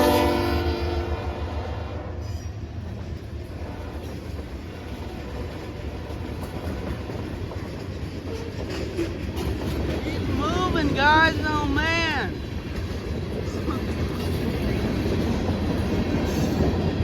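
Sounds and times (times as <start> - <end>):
freight train rumbling past: 0.0 - 17.0
train wheels clicking: 2.2 - 17.0.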